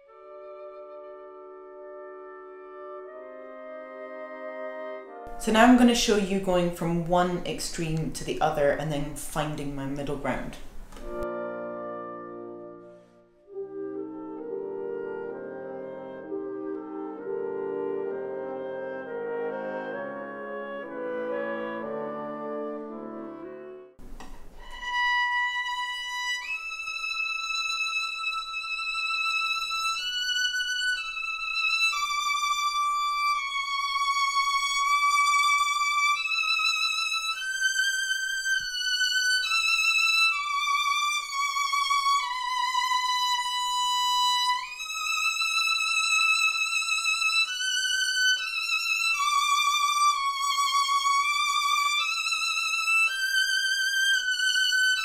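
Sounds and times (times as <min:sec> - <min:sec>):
solo violin melody: 0:00.0 - 0:07.5, 0:09.4 - 0:55.0.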